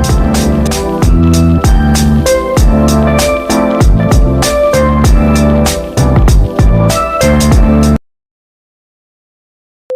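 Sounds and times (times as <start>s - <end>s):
music with steady beat: 0.0s - 8.0s.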